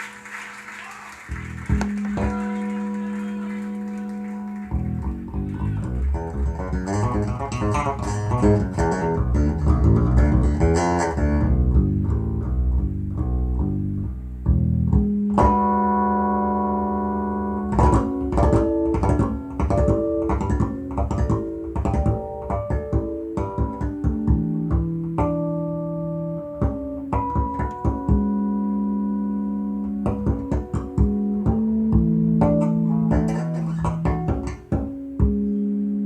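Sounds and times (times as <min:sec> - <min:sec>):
guitar and bass through speakers: 0:01.1 - 0:36.0.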